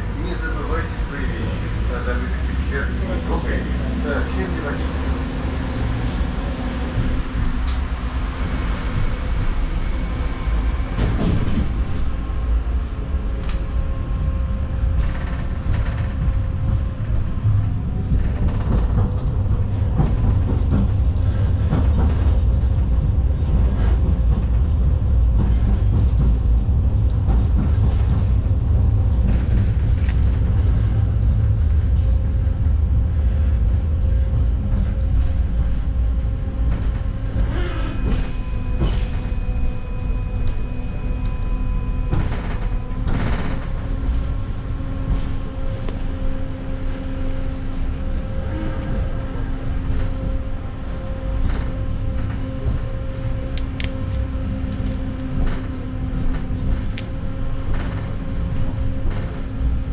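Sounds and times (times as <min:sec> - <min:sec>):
tram wheels rumbling: 0:00.0 - 0:59.9.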